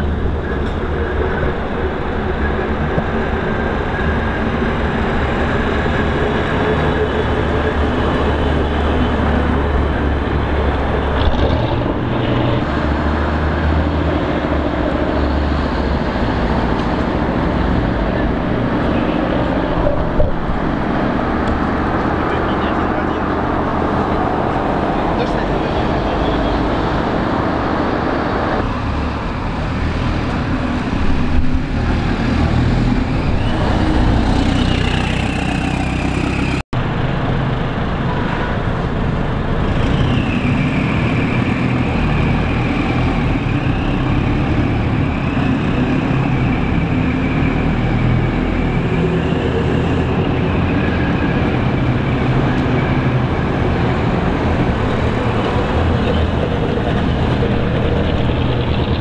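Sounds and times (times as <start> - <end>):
bus engine driving: 0.0 - 59.0.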